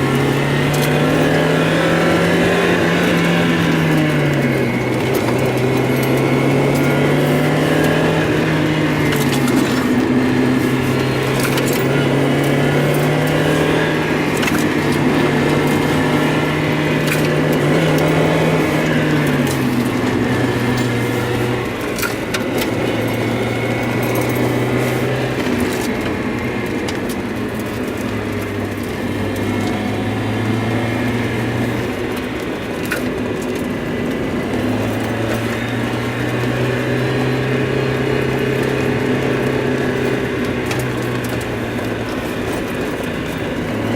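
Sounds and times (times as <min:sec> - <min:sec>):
car engine misfiring: 0:00.0 - 0:43.9.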